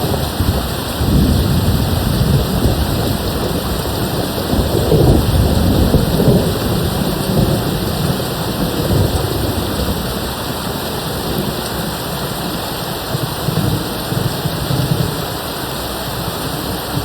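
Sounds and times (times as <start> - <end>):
distant thunder rumble: 0.0 - 17.0
steady rain: 0.0 - 17.0.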